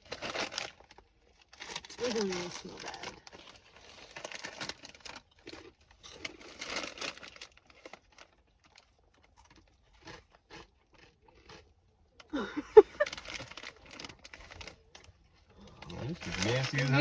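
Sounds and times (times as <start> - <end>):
snack packet crinkling: 0.0 - 12.2, 12.9 - 17.0
crunching corn snack: 0.0 - 12.4, 13.0 - 17.0.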